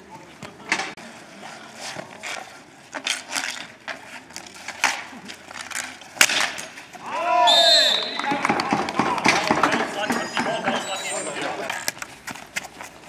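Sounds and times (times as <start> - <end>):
hockey sticks clacking on ball: 0.4 - 7.0, 8.0 - 13.0.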